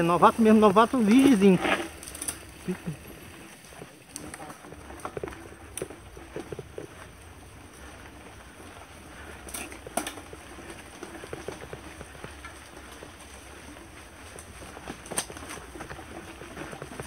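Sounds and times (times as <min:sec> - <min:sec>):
bike rattling and ticking: 0:00.0 - 0:17.0
bike tyres crunching on dirt: 0:00.0 - 0:17.0.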